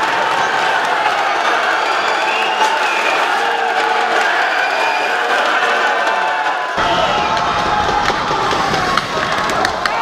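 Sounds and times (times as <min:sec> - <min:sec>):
crowd applauding and cheering: 0:00.0 - 0:10.0.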